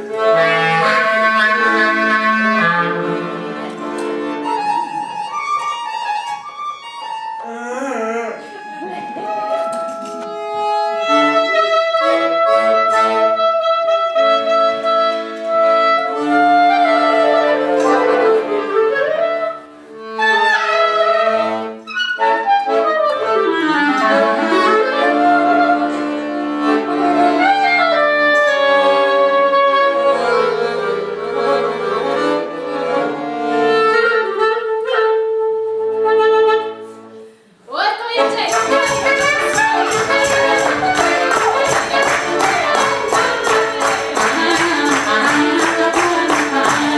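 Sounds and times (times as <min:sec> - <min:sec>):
clarinet: 0:00.0 - 0:37.5, 0:38.1 - 0:46.9
accordion chords: 0:00.0 - 0:46.9.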